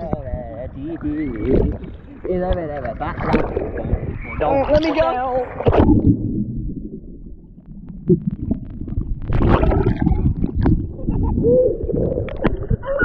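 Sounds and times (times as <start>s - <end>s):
muffled water sloshing in surf: 0.0s - 13.0s.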